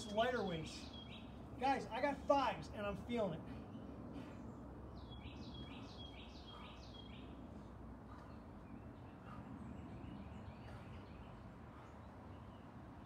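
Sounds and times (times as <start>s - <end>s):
faint background noise: 0.0s - 13.0s
songbird singing: 0.0s - 13.0s.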